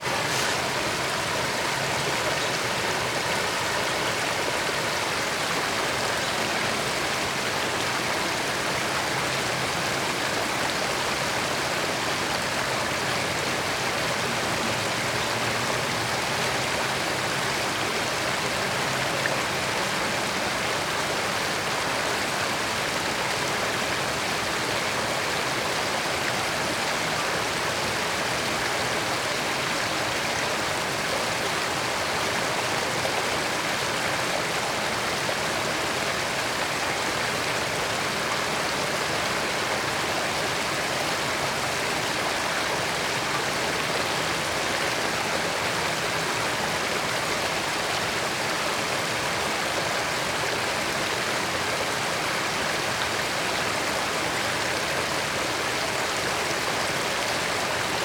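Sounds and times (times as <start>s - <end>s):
creek flowing water: 0.0s - 58.0s.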